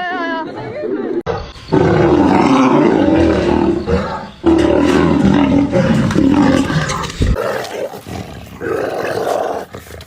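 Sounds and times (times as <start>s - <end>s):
tiger roaring: 1.6s - 9.9s.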